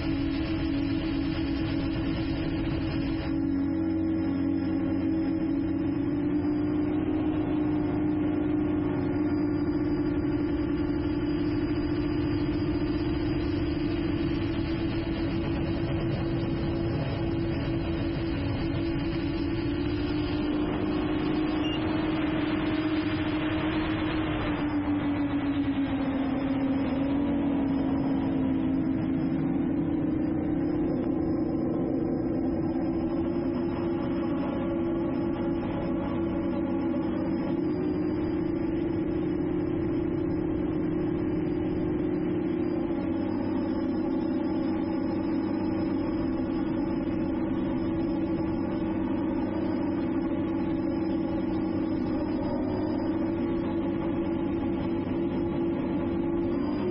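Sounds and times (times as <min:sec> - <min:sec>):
drone propellers humming: 0:00.0 - 0:56.9.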